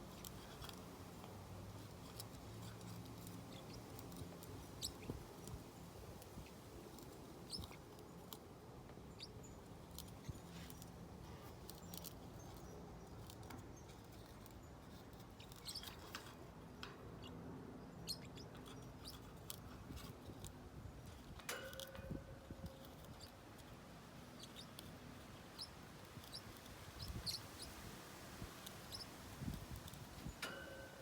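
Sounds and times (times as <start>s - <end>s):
beak chewing and crunching: 0.0s - 17.4s, 18.0s - 31.0s
small clicks and crackles: 0.0s - 17.4s, 18.1s - 31.0s.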